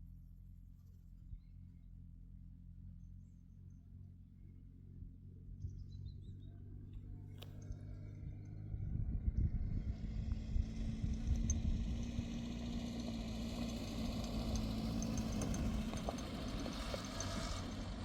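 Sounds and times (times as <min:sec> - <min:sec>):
engine running at low speed: 0:00.0 - 0:18.0.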